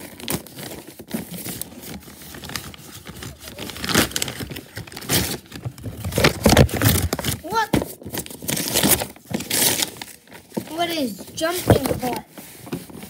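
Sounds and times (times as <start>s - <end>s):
wrapping paper tearing: 0.0s - 12.2s.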